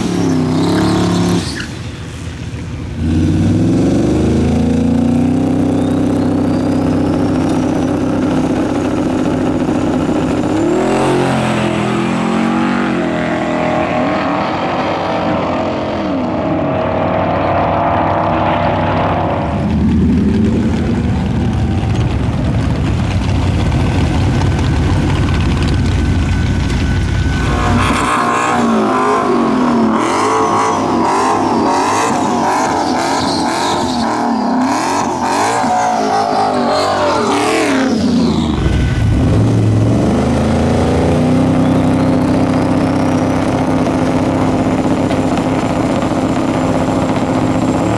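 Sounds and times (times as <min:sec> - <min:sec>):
engine running hard: 0:00.0 - 0:47.9
turbo whine: 0:05.4 - 0:47.9.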